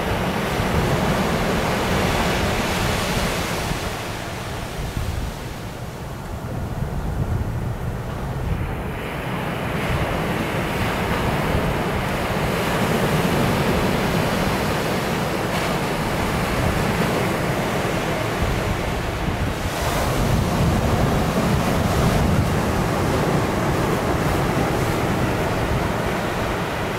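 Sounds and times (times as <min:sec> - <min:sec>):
surf breaking on beach: 0:00.0 - 0:26.9
wind buffeting microphone: 0:00.0 - 0:26.9.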